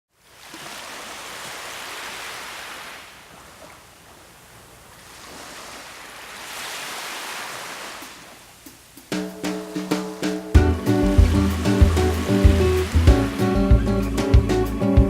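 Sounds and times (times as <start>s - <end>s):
ocean waves washing up: 0.1s - 15.0s.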